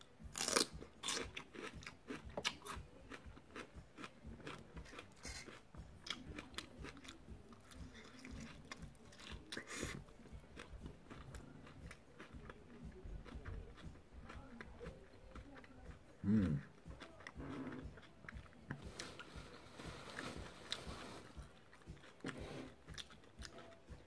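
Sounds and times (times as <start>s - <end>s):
chewing crunchy food: 0.2s - 24.0s.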